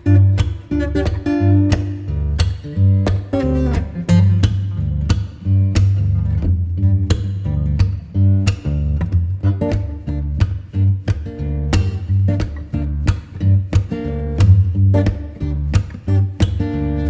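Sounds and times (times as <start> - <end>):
guitar music with beat and bass: 0.0 - 17.0.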